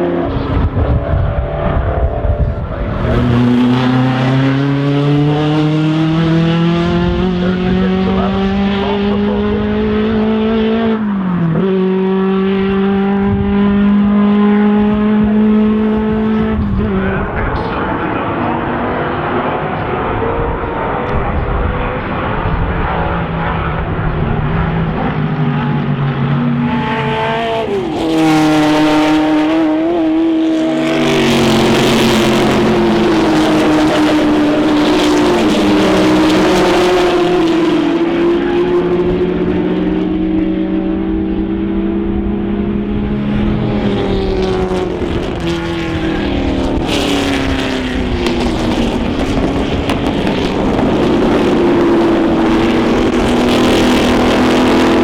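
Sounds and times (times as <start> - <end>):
racing car engines passing: 0.0 - 55.0.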